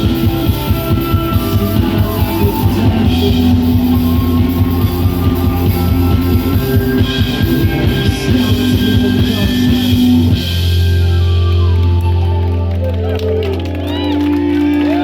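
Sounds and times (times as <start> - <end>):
drum kit playing: 0.0 - 15.0
electric guitars: 0.0 - 15.0.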